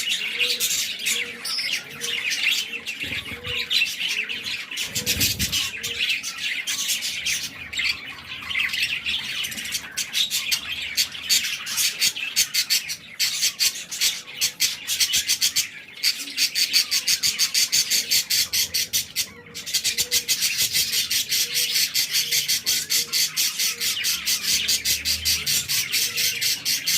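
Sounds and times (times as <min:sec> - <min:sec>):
chicks squawking raspily: 0:00.0 - 0:26.9.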